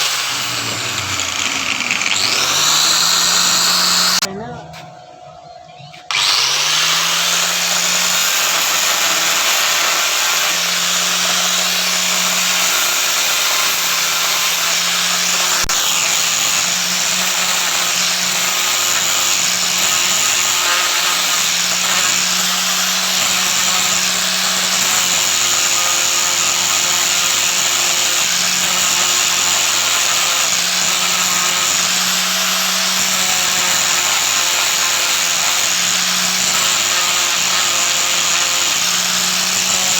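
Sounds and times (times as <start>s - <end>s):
power tool running: 0.0s - 4.3s, 6.1s - 39.9s.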